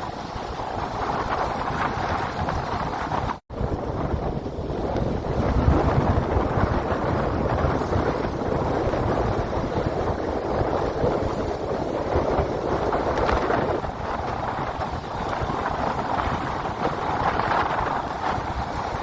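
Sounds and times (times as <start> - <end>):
breaking lake waves: 0.0 - 19.0
wind buffeting microphone: 0.0 - 19.0.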